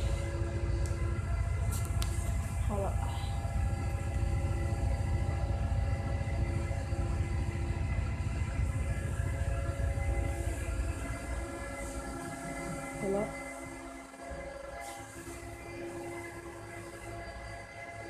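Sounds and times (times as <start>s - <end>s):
metro car equipment humming: 0.0s - 18.0s.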